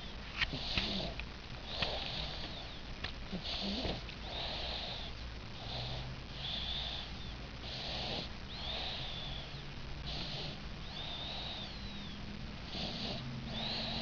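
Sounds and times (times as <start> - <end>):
baby snoring: 0.4 - 14.0.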